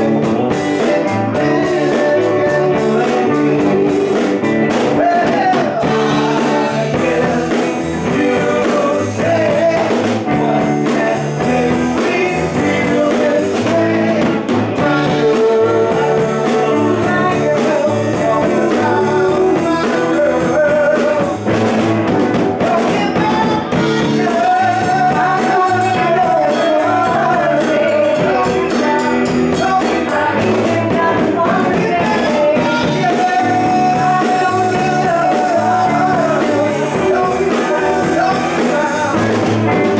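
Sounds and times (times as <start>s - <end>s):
drum kit beat: 0.0s - 39.9s
man singing: 0.0s - 39.9s
strummed guitars: 0.0s - 39.9s.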